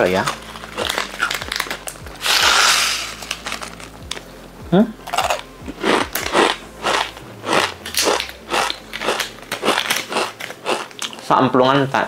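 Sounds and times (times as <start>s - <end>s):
person chewing crunchy snack: 0.3s - 4.2s, 5.1s - 11.3s.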